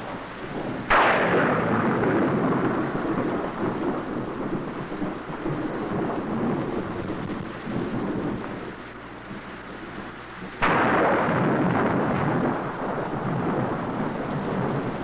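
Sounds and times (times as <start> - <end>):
rolling thunder: 0.0 - 15.0
steady rain: 0.0 - 15.0
thunder crack: 0.0 - 15.0.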